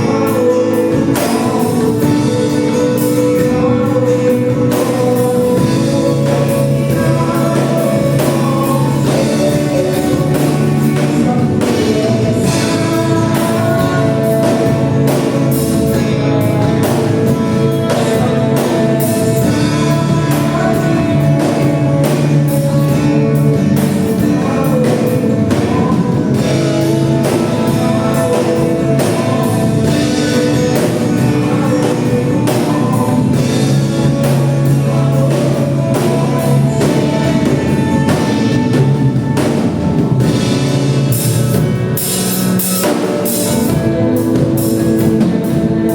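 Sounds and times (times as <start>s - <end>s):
drum beats: 0.0s - 45.9s
gospel singers with band: 0.0s - 45.9s
guitar: 0.0s - 45.9s.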